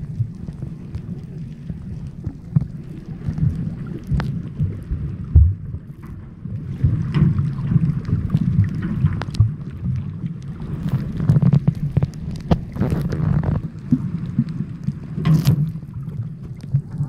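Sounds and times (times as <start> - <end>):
low underwater rumble: 0.0 - 17.0.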